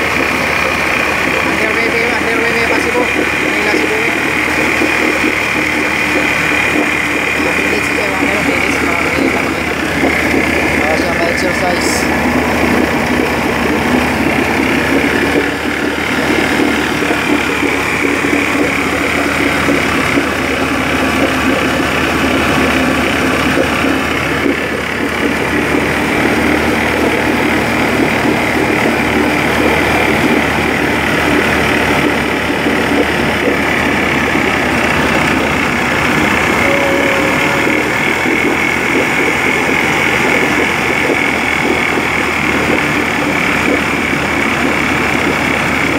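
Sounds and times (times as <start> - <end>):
outboard motor running: 0.0 - 45.9
propeller churning water: 0.0 - 45.9.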